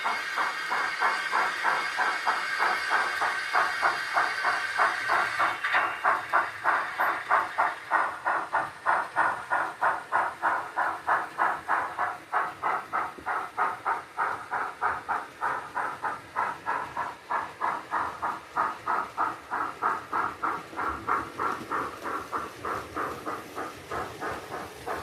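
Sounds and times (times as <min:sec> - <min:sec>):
steam hiss: 0:00.0 - 0:25.0
steam locomotive exhaust chuffs: 0:00.0 - 0:25.0.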